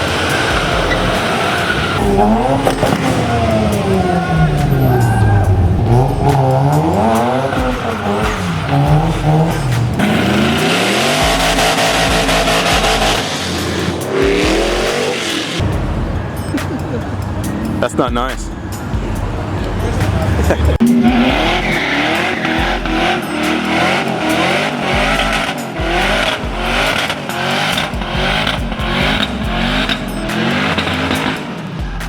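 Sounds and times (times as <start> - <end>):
car engine revving: 0.0 - 32.0
tyres squealing: 0.0 - 32.0.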